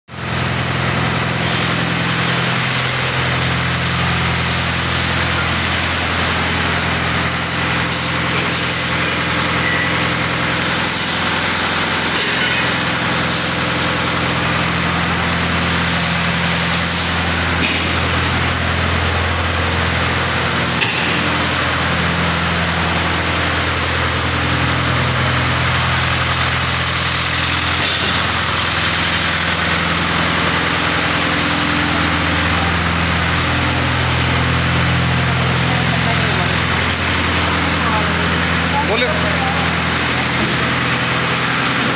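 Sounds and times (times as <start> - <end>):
machinery humming: 0.1 - 41.9.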